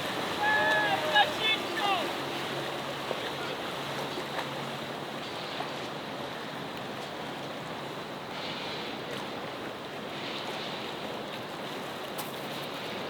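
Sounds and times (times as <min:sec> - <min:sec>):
boat motor humming: 0:00.0 - 0:13.0
water rushing: 0:00.0 - 0:13.0.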